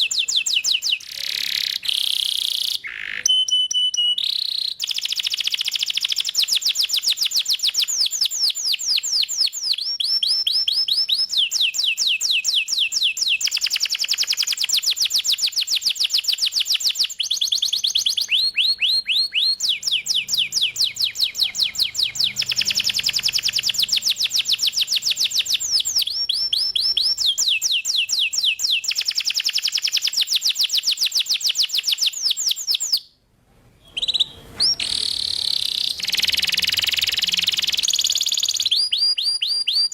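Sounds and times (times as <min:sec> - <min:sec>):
canary singing trills: 0:00.0 - 0:33.1, 0:33.8 - 0:39.9.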